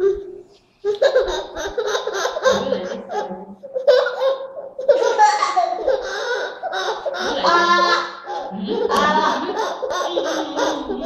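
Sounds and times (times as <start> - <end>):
toddler laughing: 0.0 - 11.0.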